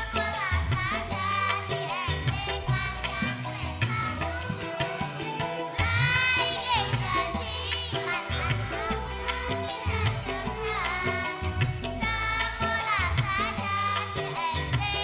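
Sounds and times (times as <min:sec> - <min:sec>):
children's choir singing: 0:00.0 - 0:15.0
instrumental accompaniment with beat: 0:00.0 - 0:15.0.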